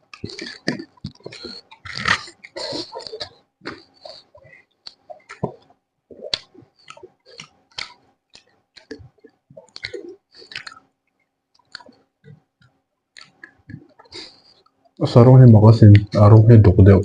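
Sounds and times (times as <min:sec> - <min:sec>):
person chewing with wet smacks: 0:00.0 - 0:15.0.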